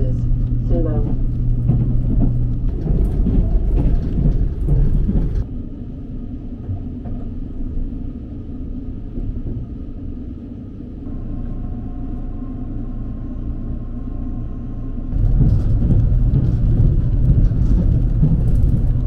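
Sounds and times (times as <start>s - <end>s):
low hum: 0.0s - 19.0s
train rumble with rail clatter: 0.0s - 19.0s.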